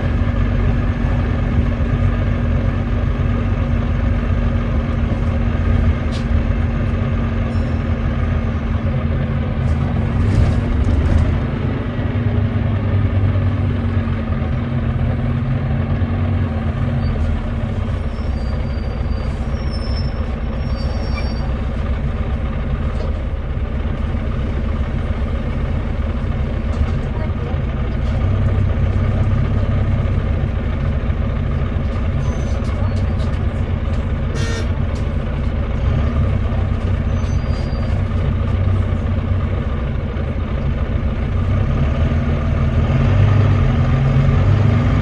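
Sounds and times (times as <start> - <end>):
misfiring diesel bus engine: 0.0 - 45.0.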